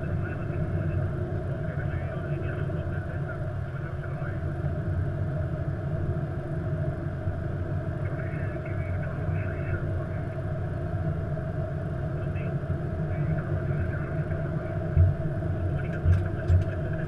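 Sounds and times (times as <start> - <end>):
aircraft cockpit rumble and hum: 0.0 - 17.0.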